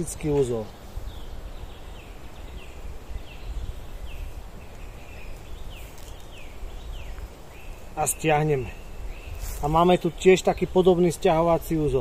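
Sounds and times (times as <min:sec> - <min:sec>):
small bird calling: 0:00.0 - 0:11.0.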